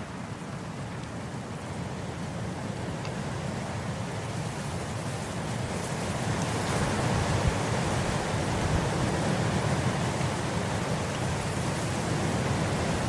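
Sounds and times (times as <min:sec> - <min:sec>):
wind blowing through grass: 0:00.0 - 0:13.0.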